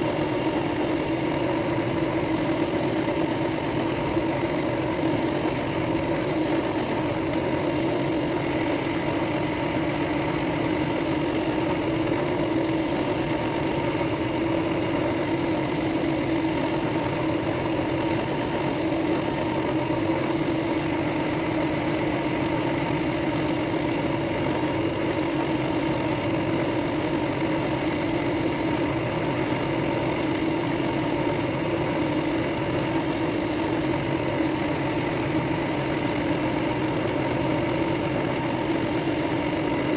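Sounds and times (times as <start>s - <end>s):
drill press motor hum: 0.0s - 39.9s.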